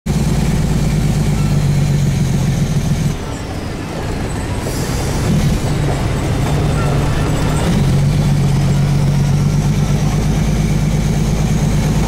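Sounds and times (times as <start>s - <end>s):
truck engine running under load: 0.1s - 12.0s.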